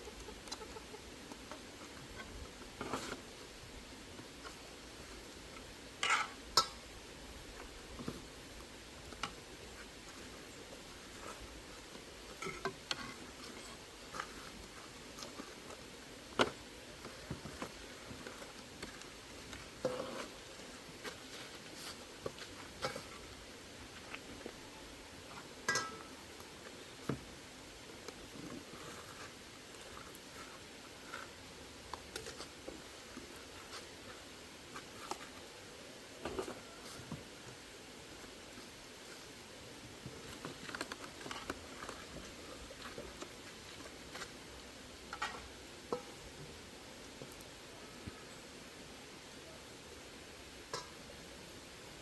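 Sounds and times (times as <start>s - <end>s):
faint steady hiss: 0.0s - 52.0s.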